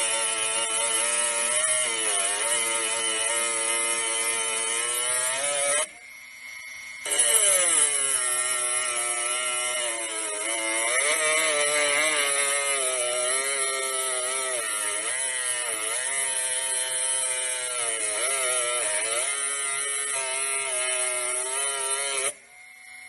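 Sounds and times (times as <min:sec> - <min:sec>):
angle grinder motor whining: 0:00.0 - 0:23.0.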